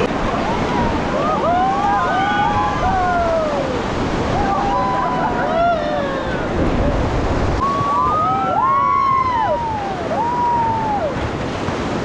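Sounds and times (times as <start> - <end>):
rushing whitewater: 0.0 - 12.0
people whooping and shrieking: 0.3 - 6.6, 7.6 - 11.2.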